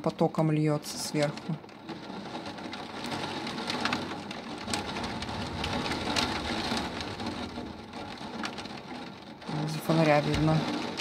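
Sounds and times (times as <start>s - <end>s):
heavy rain pouring: 0.0s - 11.0s
rain drops spattering: 0.0s - 11.0s.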